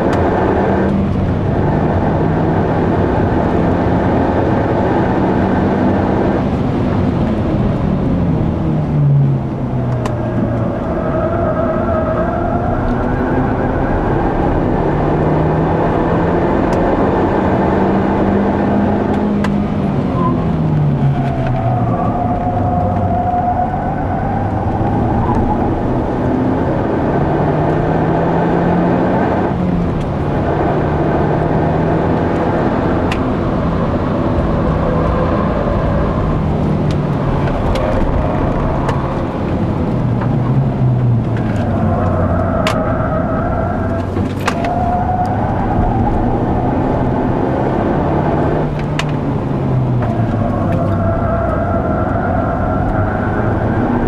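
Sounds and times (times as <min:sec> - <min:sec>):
car engine accelerating hard: 0:00.0 - 0:54.0
road and wind noise: 0:00.0 - 0:54.0.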